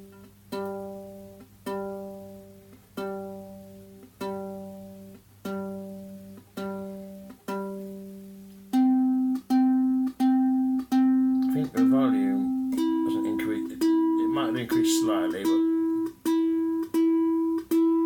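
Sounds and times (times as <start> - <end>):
ukulele note plucked: 0.0 - 18.0.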